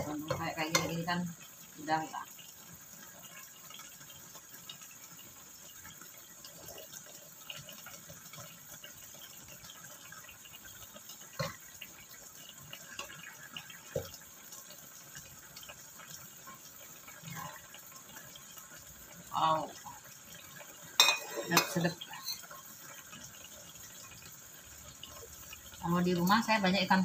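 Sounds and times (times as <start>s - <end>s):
sauce bubbling in a wok: 0.0s - 27.0s.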